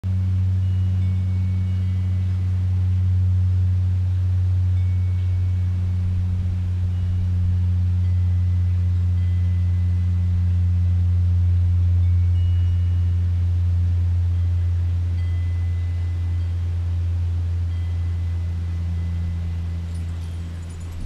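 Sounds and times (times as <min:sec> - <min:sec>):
loud low hum: 0:00.0 - 0:21.0.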